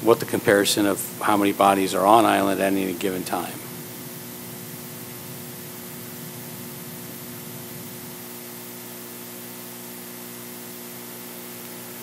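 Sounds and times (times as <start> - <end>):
low electrical hum: 0.0 - 12.0
steady hiss: 0.0 - 12.0.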